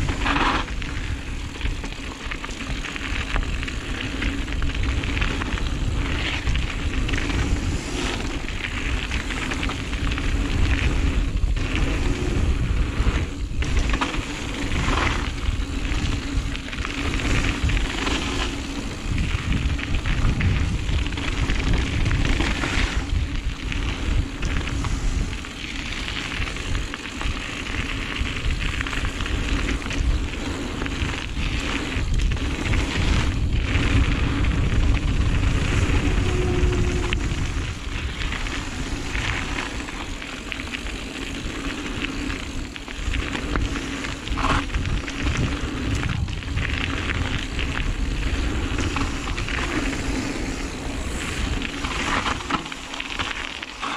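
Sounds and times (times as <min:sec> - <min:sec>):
bike frame and chain rattling: 0:00.0 - 0:53.9
bike tyres crackling over dirt: 0:00.0 - 0:53.9
wind rushing over microphone: 0:00.0 - 0:53.9.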